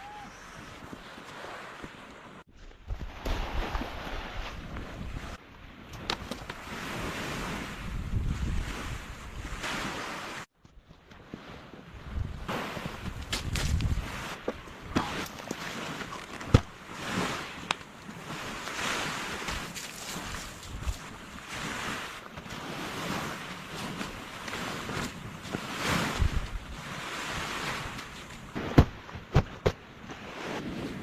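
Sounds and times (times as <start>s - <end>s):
sea waves breaking: 0.0s - 10.5s, 11.2s - 31.0s
wind: 0.0s - 31.0s.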